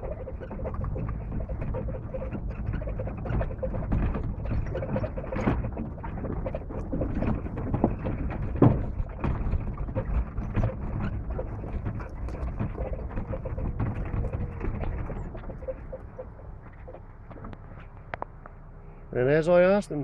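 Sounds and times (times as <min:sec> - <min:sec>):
vehicle knocks and rattles: 0:00.0 - 0:18.7
vehicle rumble on rough ground: 0:00.0 - 0:20.0.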